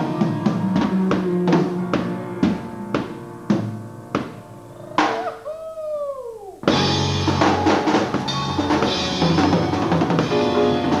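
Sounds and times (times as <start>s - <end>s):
jazz band with piano and drums: 0.0s - 5.5s, 6.6s - 11.0s.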